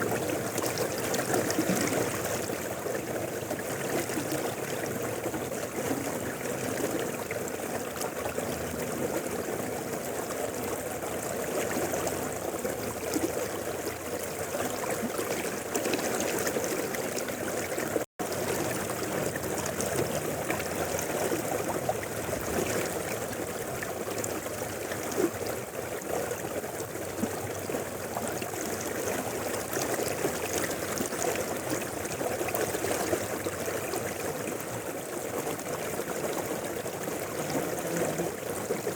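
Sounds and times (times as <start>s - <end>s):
river flowing over rocks: 0.0s - 38.9s.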